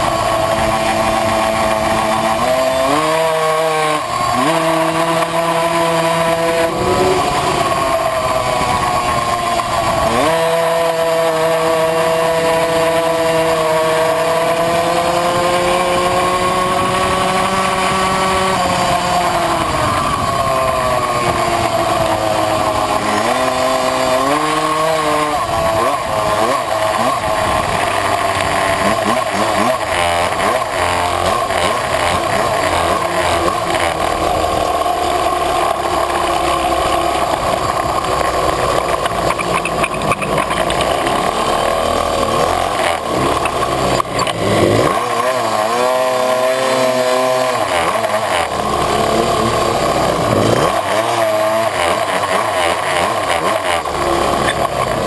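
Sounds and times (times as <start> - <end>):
moped two-stroke engine revving: 0.0 - 55.0.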